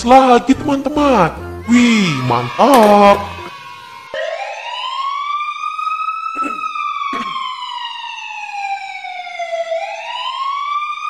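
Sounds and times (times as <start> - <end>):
ambulance siren wailing: 0.0 - 11.0.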